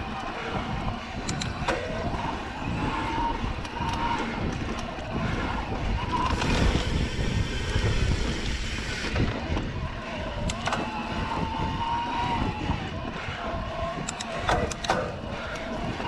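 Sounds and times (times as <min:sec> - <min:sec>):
bike tyres rolling over dirt: 0:00.0 - 0:14.1
wind buffeting microphone: 0:00.0 - 0:16.0.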